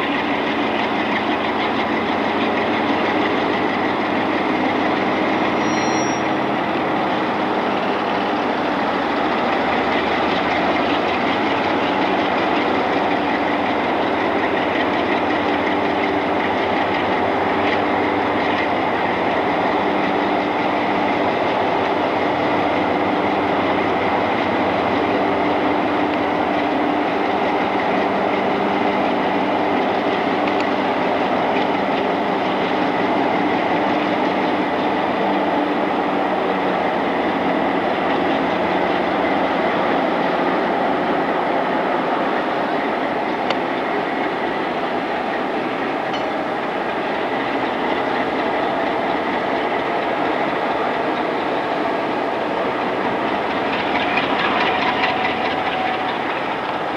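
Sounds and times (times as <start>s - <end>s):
locomotive engine droning: 0.0s - 56.9s.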